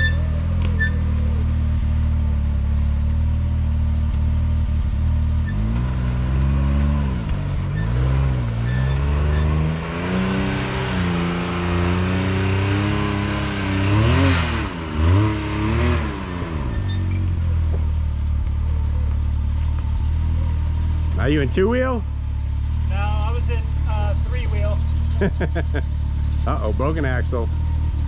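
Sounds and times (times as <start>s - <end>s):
utility vehicle engine revving: 0.0s - 28.0s.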